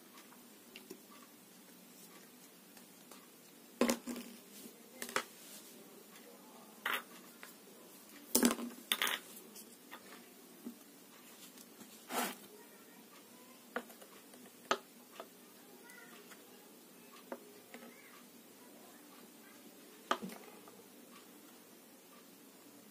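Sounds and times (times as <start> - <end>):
faint background hiss: 0.0 - 22.9.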